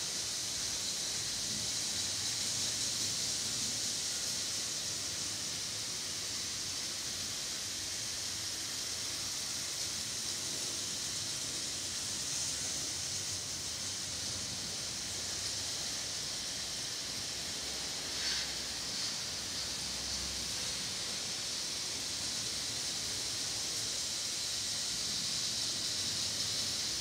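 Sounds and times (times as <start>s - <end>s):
room noise hiss: 0.0s - 27.0s.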